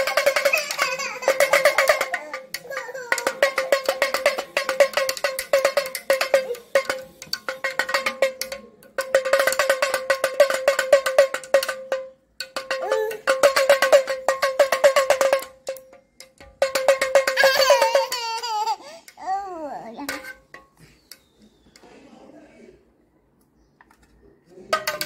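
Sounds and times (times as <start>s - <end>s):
pellet drum rattling: 0.0s - 18.9s, 19.9s - 21.3s, 23.9s - 25.0s.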